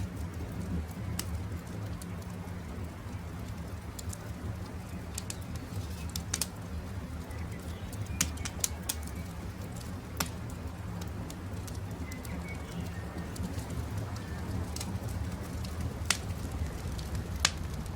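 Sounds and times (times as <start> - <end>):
campfire crackling and popping: 0.0 - 17.9.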